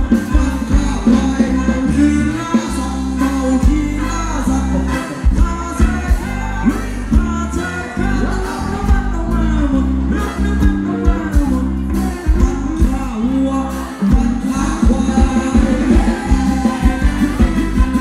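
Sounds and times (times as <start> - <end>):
band music with heavy bass: 0.0 - 18.0
person singing: 0.0 - 18.0.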